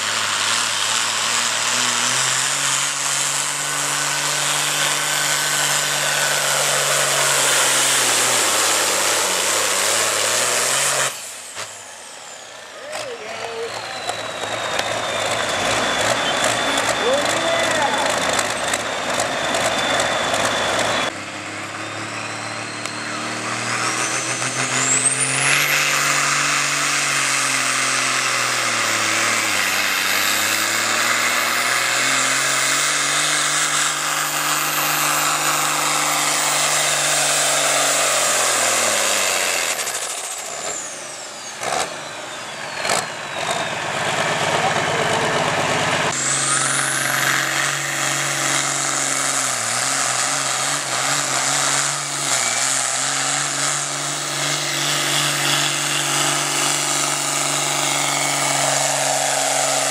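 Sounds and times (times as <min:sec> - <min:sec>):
diesel tractor engine revving: 0:00.0 - 0:59.9
second tractor engine revving: 0:00.0 - 0:59.9.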